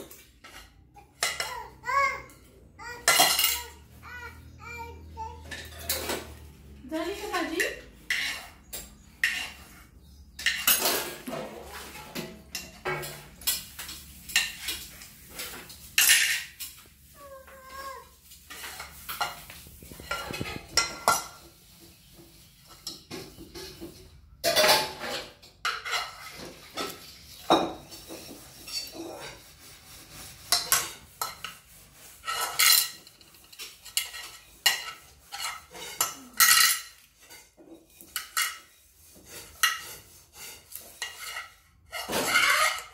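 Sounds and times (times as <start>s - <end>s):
spoon scraping frying pan: 0.0s - 42.9s.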